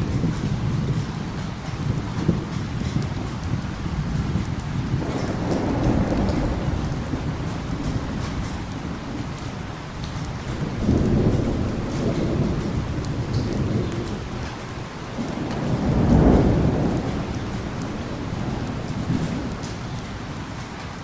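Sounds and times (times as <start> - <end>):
heavy rain: 0.0 - 21.0
rolling thunder: 0.0 - 21.0.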